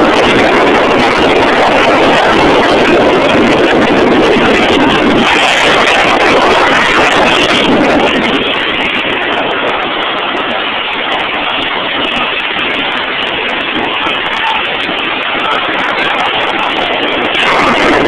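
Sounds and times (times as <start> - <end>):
helicopter overhead: 0.0 - 18.0
wind buffeting microphone: 0.0 - 18.0.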